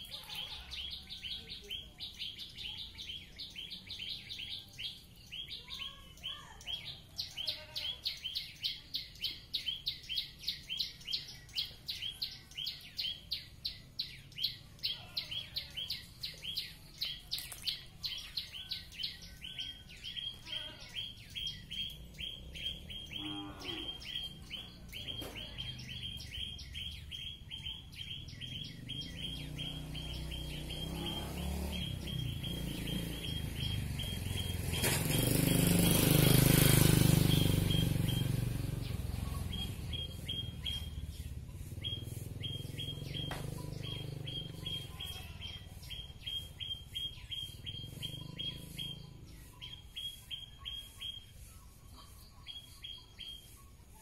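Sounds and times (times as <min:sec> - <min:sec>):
songbird singing rapid high notes: 0:00.0 - 0:54.0.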